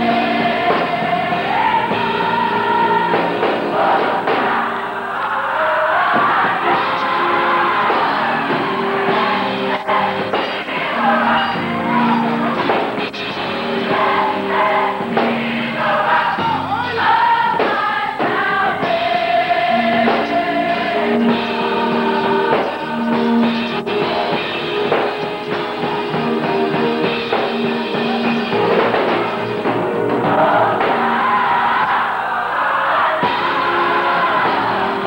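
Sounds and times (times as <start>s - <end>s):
choir singing gospel: 0.0s - 35.0s.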